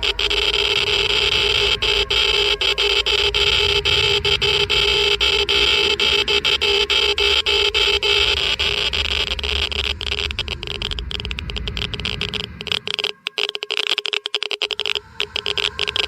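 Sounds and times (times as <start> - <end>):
geiger counter clicking: 0.0 - 16.0
steady background hum: 0.0 - 16.0.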